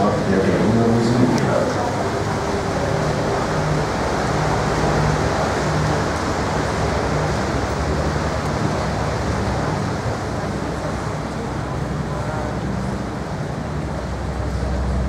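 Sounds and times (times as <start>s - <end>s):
boat engine humming: 0.0s - 15.0s
wind and water rushing: 0.0s - 15.0s.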